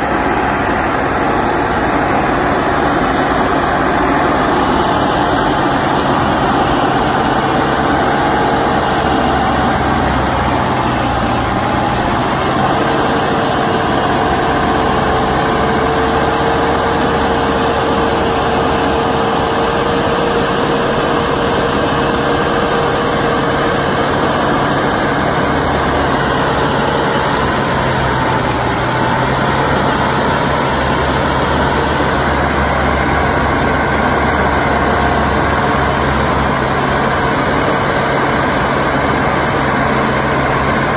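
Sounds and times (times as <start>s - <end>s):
mulcher whine: 0.0s - 40.9s
tractor diesel engine running: 0.0s - 40.9s.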